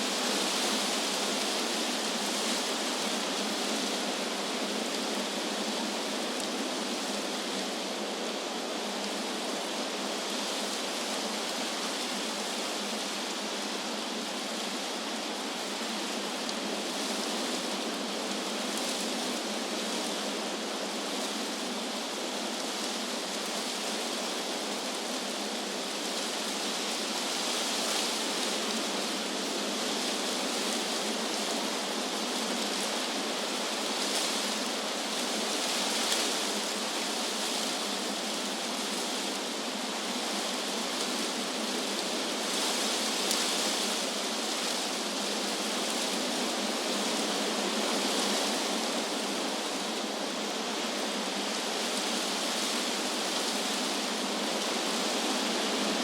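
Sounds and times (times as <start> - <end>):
wind blowing through tree leaves: 0.0 - 56.0.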